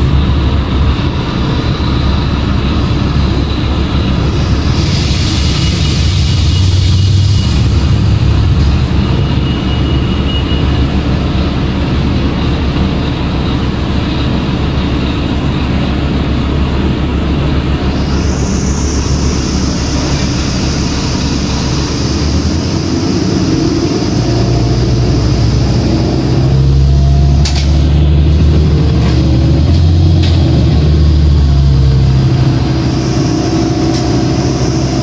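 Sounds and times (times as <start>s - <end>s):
bus diesel engine rumbling: 0.0s - 35.0s
road noise: 0.0s - 35.0s.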